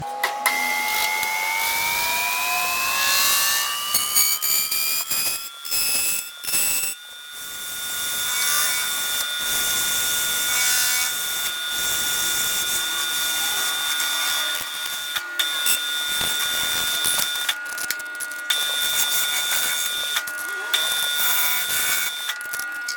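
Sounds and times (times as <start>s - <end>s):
machine tool spindle whine: 0.0s - 22.9s.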